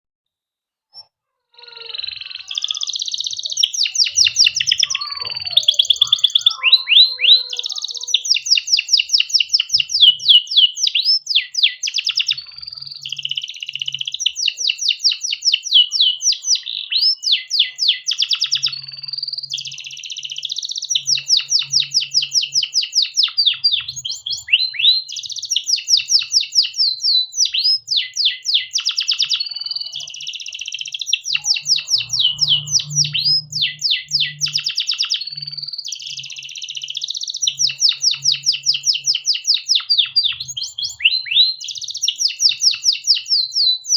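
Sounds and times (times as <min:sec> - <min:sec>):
canary singing trills: 0:01.0 - 0:43.9.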